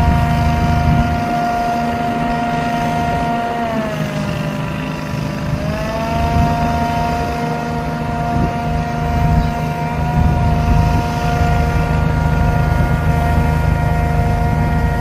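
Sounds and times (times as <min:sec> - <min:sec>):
sprayer engine and blower whine: 0:00.0 - 0:15.0.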